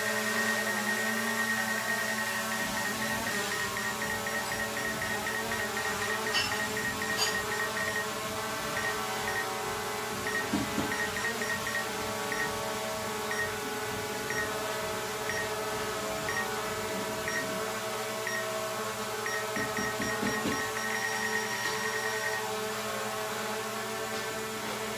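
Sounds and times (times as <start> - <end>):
drone propellers humming: 0.0 - 18.5, 19.2 - 22.5.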